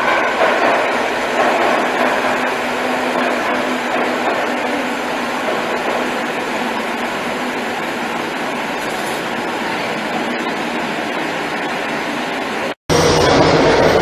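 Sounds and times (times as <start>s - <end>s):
underground train wheels rushing: 0.0s - 14.0s.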